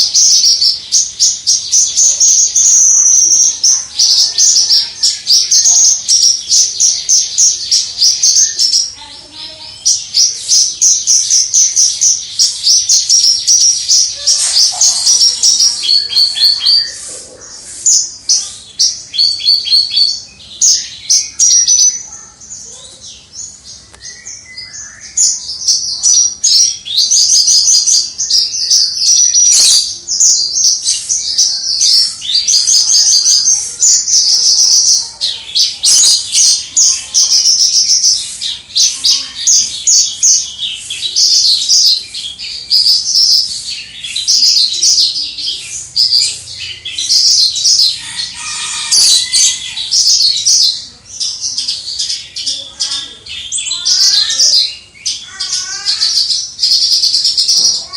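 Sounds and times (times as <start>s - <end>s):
lark singing: 0.0s - 57.9s.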